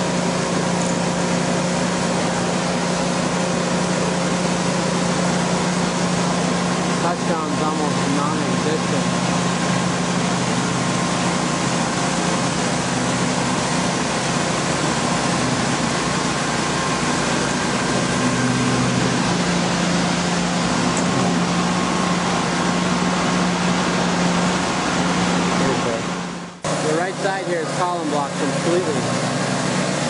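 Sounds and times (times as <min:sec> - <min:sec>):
engine hum with hiss: 0:00.0 - 0:30.0.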